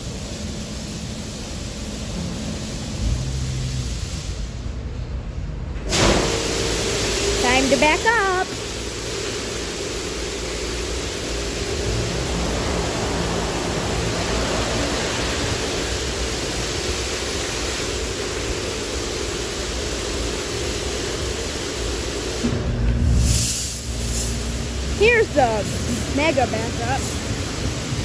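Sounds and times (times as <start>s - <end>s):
water spray hissing: 0.0s - 4.6s, 5.9s - 22.6s, 23.2s - 28.0s.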